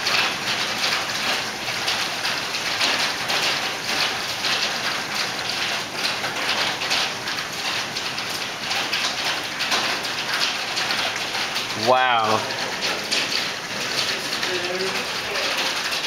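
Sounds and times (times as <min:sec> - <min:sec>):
hail and rain pattering: 0:00.0 - 0:16.0.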